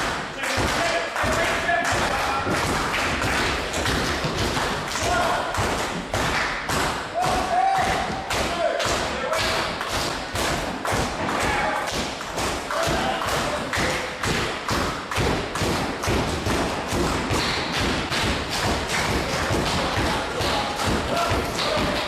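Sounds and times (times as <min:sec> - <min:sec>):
music with thumping beat: 0:00.0 - 0:22.0.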